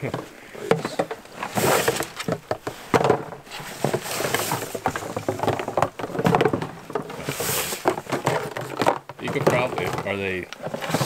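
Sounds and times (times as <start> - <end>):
plastic decoys knocking: 0.0 - 11.0
rustling of tangled lines: 0.0 - 11.0.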